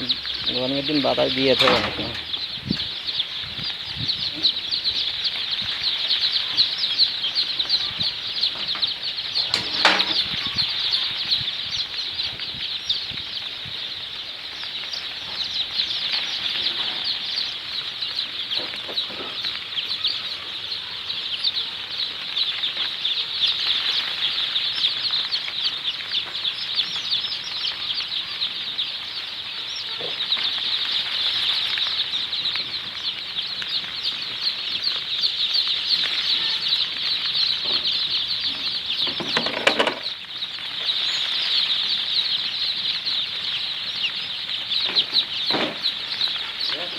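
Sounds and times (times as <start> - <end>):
chicks cheeping: 0.0 - 46.9.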